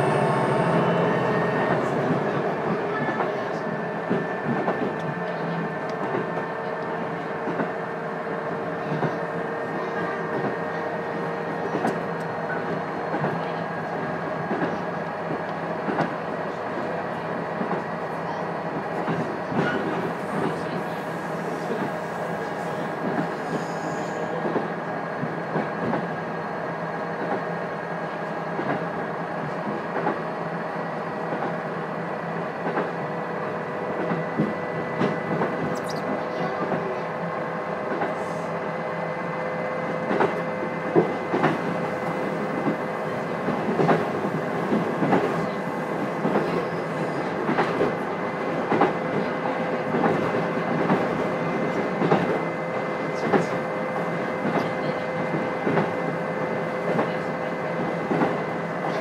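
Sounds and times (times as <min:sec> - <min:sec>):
diesel railcar running noise: 0:00.0 - 0:59.0.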